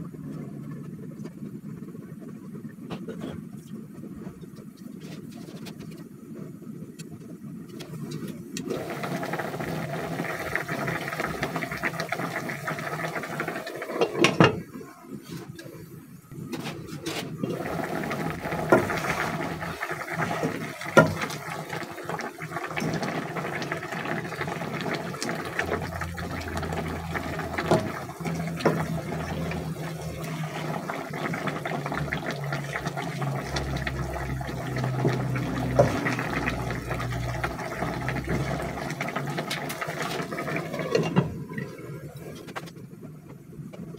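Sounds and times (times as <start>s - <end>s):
stew bubbling in a pot: 0.0s - 43.9s.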